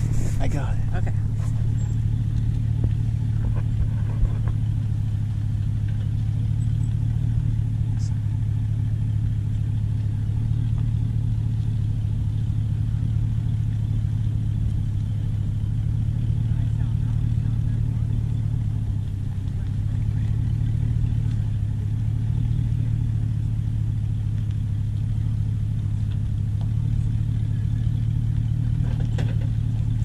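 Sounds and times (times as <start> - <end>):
pickup truck engine and road noise: 0.0 - 30.0.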